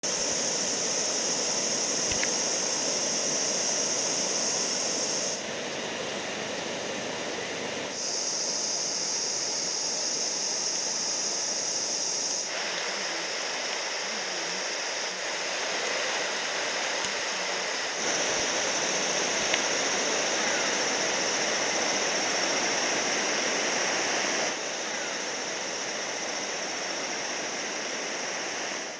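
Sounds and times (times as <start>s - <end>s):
floodwater rushing: 0.0s - 7.6s, 12.4s - 28.9s
steady high hiss: 0.0s - 28.9s.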